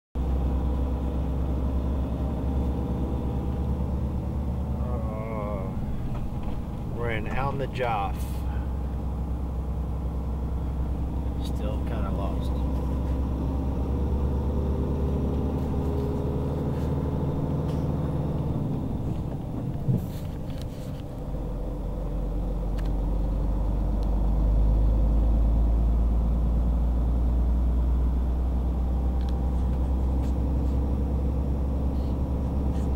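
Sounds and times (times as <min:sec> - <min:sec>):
diesel truck engine: 0:00.1 - 0:32.9.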